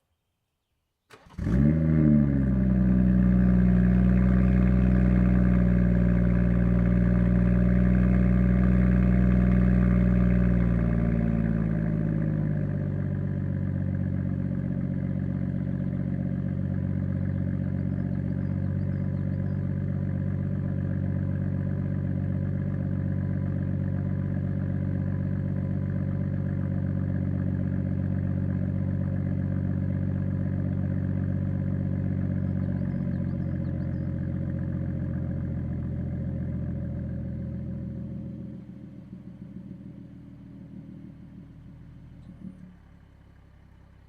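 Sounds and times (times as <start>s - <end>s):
car engine idling: 1.1s - 44.0s.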